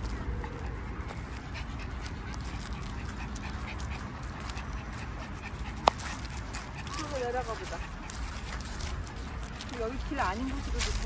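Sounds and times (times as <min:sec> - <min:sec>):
dog rustling through leaves: 0:01.6 - 0:11.0.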